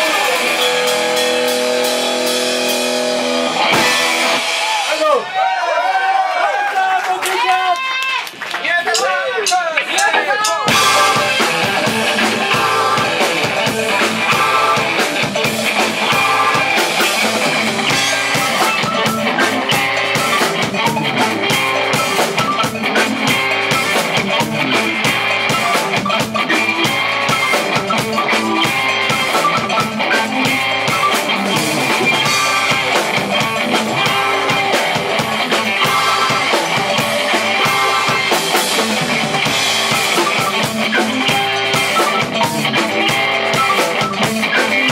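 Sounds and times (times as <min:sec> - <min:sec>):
electric guitars: 0:00.0 - 0:05.3, 0:09.9 - 0:44.9
drum kit beat: 0:00.0 - 0:05.6, 0:08.8 - 0:44.9.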